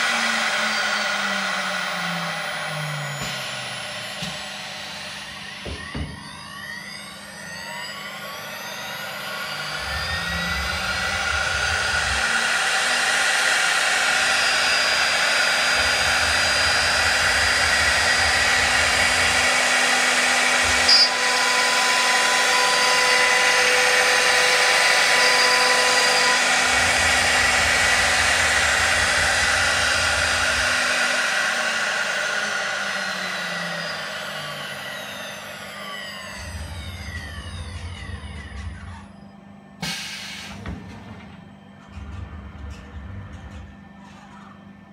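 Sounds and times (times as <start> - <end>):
router spindle whining: 0.0 - 40.4.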